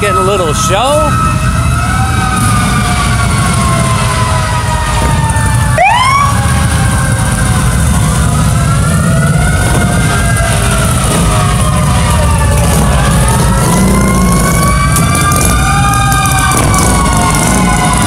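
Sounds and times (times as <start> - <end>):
emergency sirens wailing: 0.0 - 18.0
motorcycle engines rumbling: 0.0 - 18.0
siren whoop: 0.0 - 18.0.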